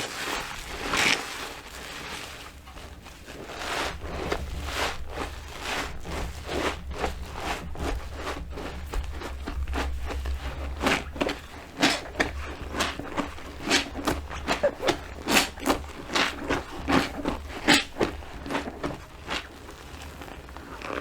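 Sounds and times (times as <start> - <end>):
wet sponge squelching: 0.0 - 21.0.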